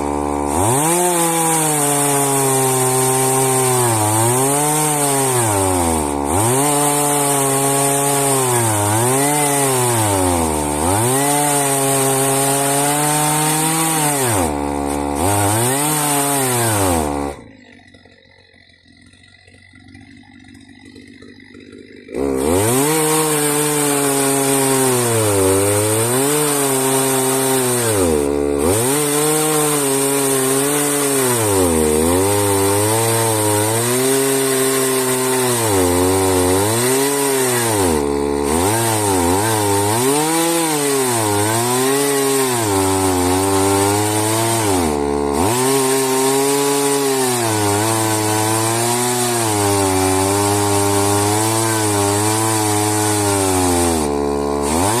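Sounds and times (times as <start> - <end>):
chainsaw cutting log under load: 0.0 - 55.0.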